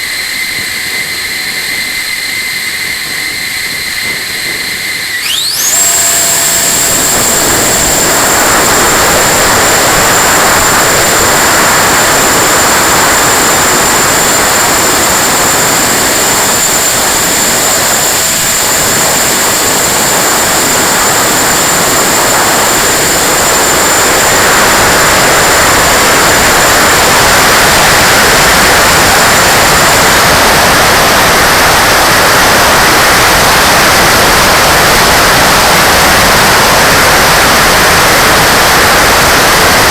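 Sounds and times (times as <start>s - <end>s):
electric ducted fan whine: 0.0s - 39.9s
wind rushing past camera: 0.0s - 39.9s.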